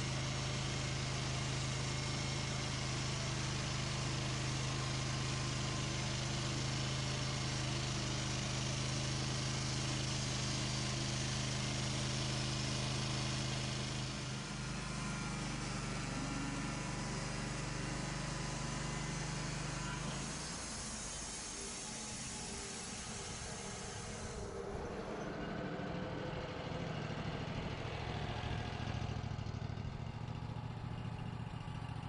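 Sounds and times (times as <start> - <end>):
sawmill engine running: 0.0 - 32.0.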